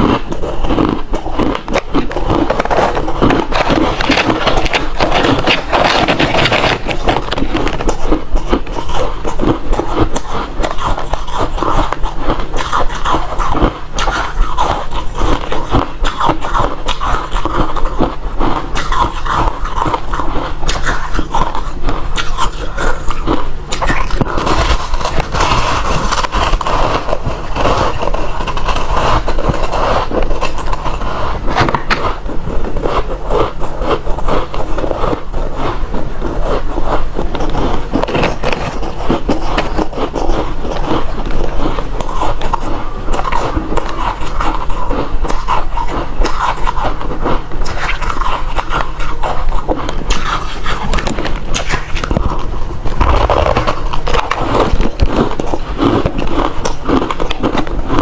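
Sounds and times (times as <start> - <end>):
chewing crushed ice: 0.0 - 58.0.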